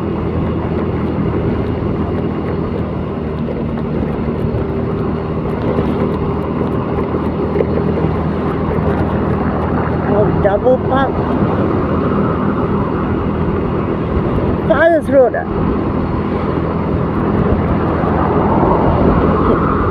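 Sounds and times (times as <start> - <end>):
road noise: 0.0 - 19.9
vehicle engine droning: 0.0 - 19.9.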